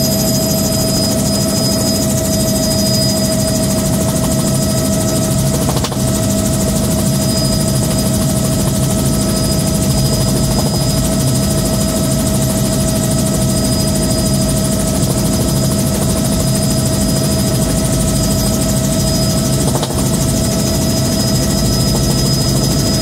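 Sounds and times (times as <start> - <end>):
helicopter rotor beat: 0.0 - 23.0
helicopter turbine whine: 0.0 - 23.0.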